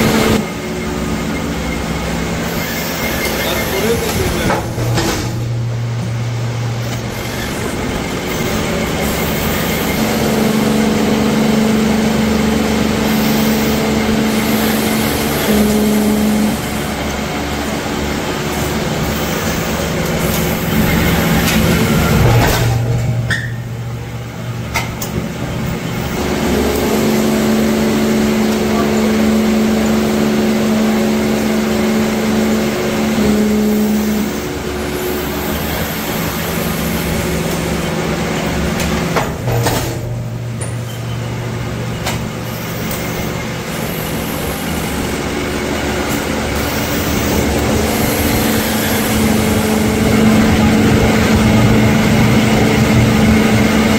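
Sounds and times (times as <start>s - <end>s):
forging machine hum: 0.0s - 53.9s
machine drone: 0.0s - 53.9s.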